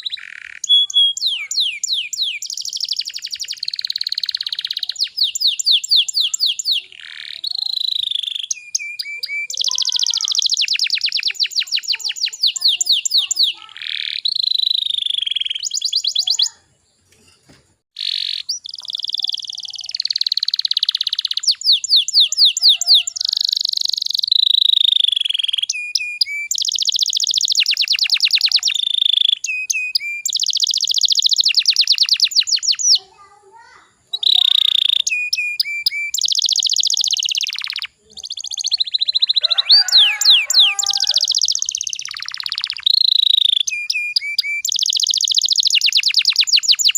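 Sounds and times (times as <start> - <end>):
canary singing trills: 0.0 - 17.1, 18.0 - 46.9.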